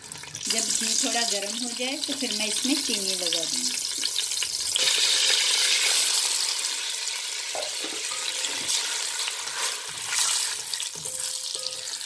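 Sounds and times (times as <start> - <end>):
ghee sizzling and crackling: 0.0 - 12.0.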